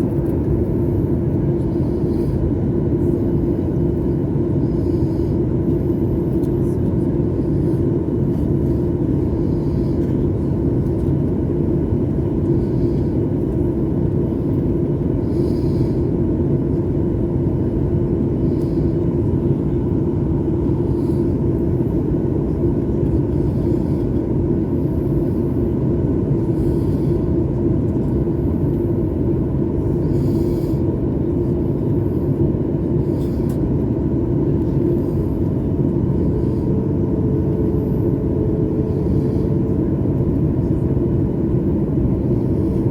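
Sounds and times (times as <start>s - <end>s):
airliner cabin engine rumble: 0.0s - 42.9s.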